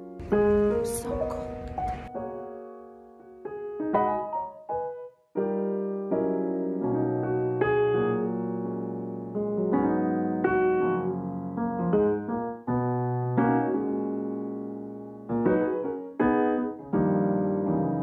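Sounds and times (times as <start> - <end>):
piano chords ringing: 0.0 - 18.0.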